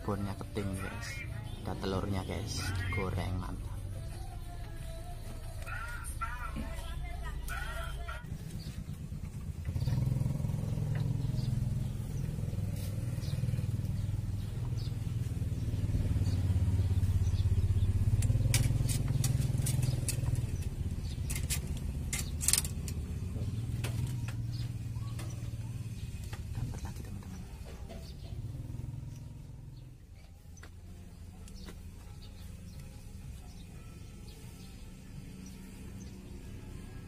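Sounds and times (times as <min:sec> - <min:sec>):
vehicle engine passing: 0:00.0 - 0:37.0.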